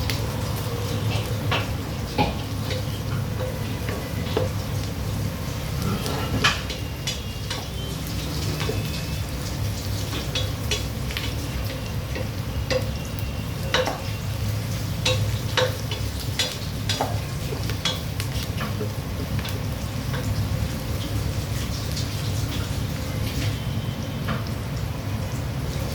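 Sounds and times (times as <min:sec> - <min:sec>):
food sizzling: 0:00.0 - 0:25.9.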